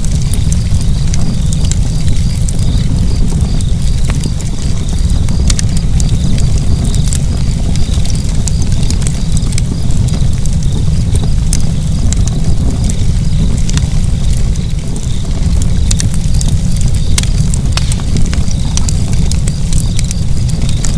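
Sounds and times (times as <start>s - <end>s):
fire crackling and rumbling: 0.0s - 20.9s.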